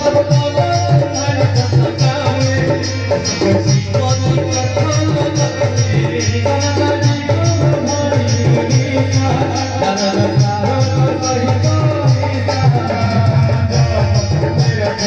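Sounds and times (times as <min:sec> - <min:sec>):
barrel drum beat: 0:00.0 - 0:15.0
harmonium and keyboard tones: 0:00.0 - 0:15.0.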